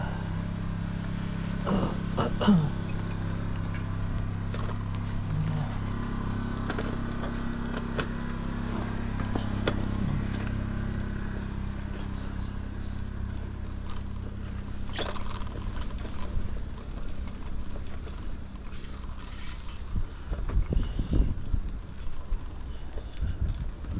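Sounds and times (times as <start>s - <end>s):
bicycle riding rumble: 0.0s - 23.9s
bicycle clicks and rattles: 2.8s - 23.9s.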